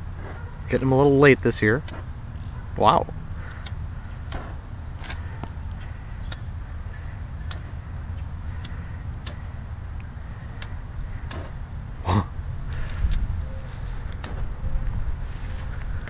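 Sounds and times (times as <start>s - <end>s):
wind rumbling on microphone: 1.9s - 16.0s.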